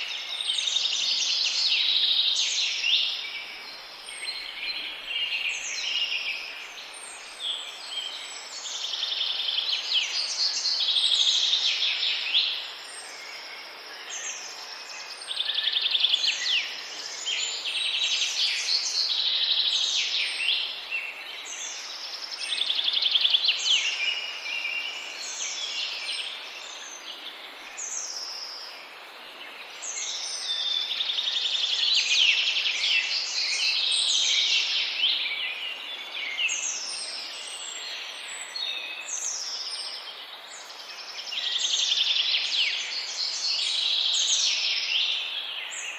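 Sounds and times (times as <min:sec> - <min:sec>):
chorus of small birds chirping: 0:00.0 - 0:45.9.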